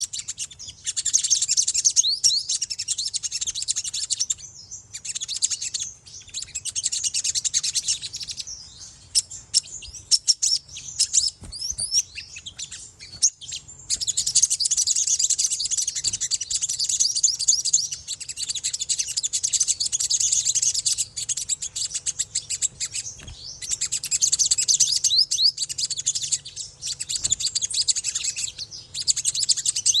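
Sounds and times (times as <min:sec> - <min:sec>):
bird twittering chatter: 0:00.0 - 0:30.0.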